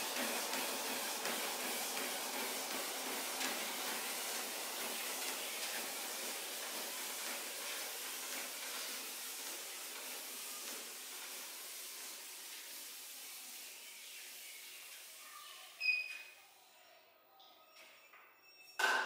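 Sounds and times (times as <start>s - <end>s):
treadmill motor and belt hiss: 0.0s - 16.5s.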